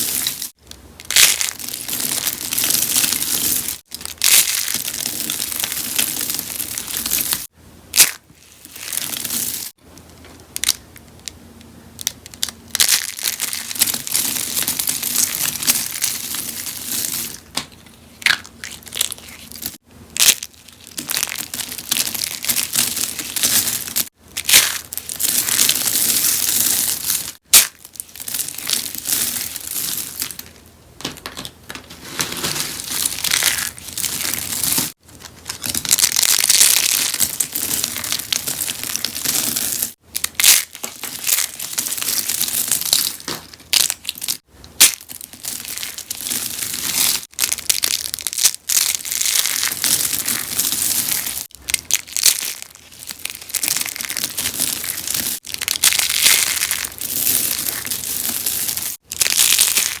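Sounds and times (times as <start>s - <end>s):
soap crunching and crackling: 0.0s - 9.8s, 12.0s - 30.6s, 31.2s - 60.0s.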